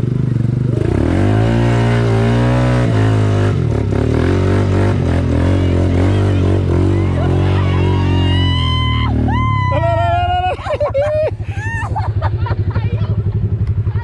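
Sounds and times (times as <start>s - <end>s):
quad bike engine revving: 0.0s - 14.0s.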